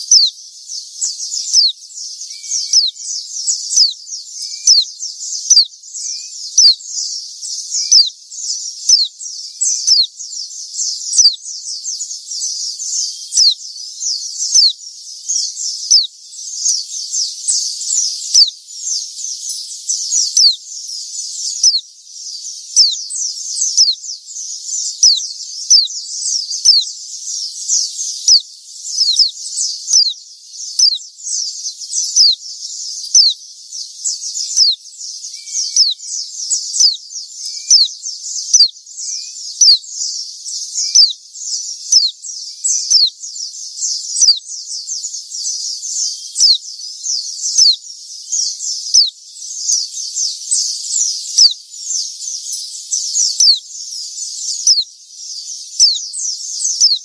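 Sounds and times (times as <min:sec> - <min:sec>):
birds singing high thin notes: 0:00.0 - 0:57.0.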